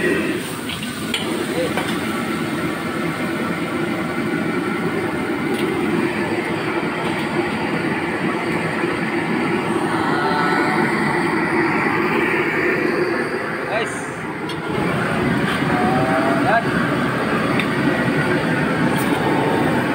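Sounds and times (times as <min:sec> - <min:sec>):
gas wok burner rushing: 0:00.0 - 0:19.9.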